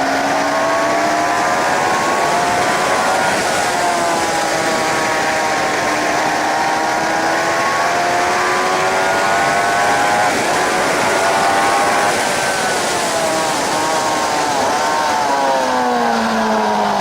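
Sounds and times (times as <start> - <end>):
heavy wind rush: 0.0 - 17.0
motorcycle engine under load: 0.0 - 17.0.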